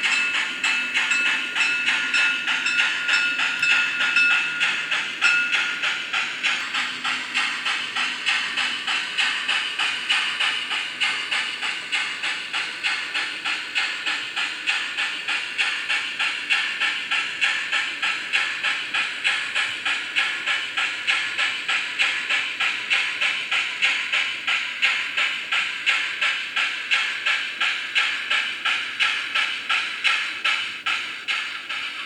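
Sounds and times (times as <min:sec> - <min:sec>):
model locomotive steam chuffs: 0:00.0 - 0:32.0.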